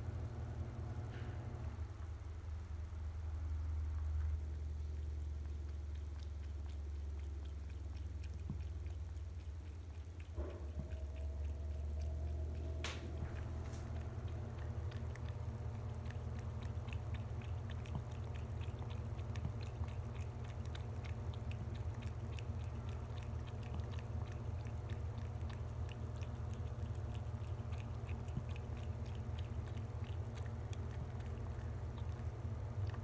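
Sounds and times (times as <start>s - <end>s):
low hum: 0.0s - 33.0s
cat lapping water: 4.0s - 33.0s.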